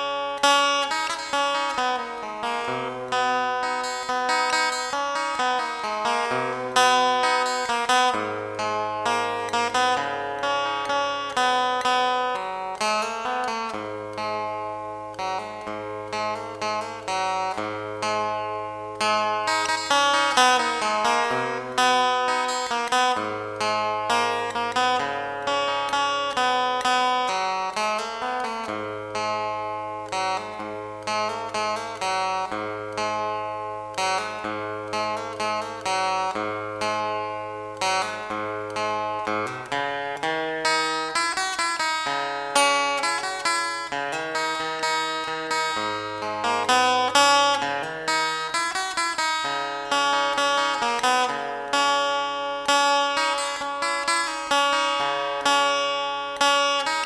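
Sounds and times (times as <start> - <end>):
plucked acoustic guitar: 0.0 - 57.0.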